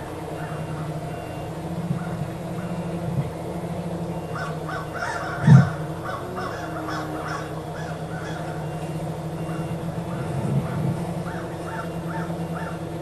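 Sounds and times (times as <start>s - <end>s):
quadcopter motor drone: 0.0s - 13.0s
crows cawing: 0.2s - 13.0s.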